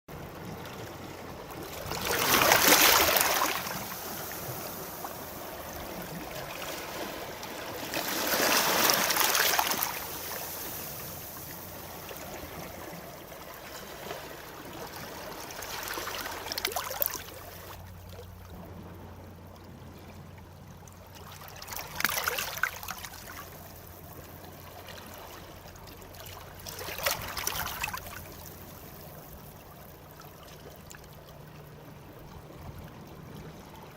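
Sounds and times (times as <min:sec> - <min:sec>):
sea waves breaking: 0:00.1 - 0:33.9.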